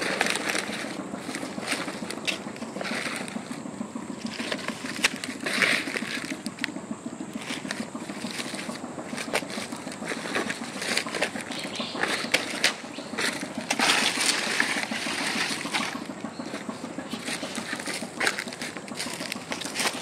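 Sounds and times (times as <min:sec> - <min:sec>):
dry leaves and twigs rustling: 0:00.0 - 0:20.0.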